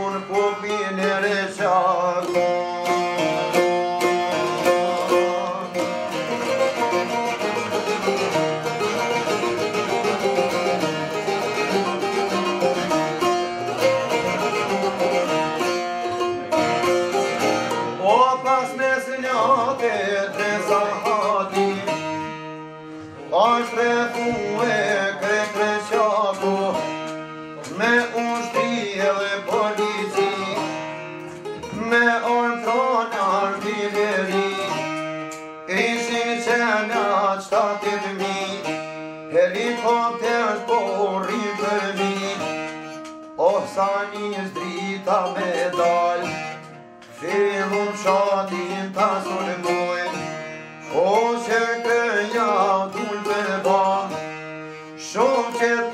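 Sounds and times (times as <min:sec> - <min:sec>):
man singing folk song: 0:00.0 - 0:55.9
strummed lutes: 0:00.0 - 0:55.9.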